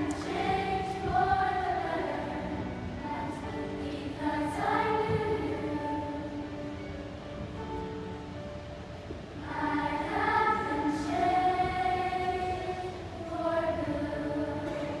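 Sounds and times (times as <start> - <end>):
choir singing long held notes: 0.0 - 7.0, 9.4 - 15.0.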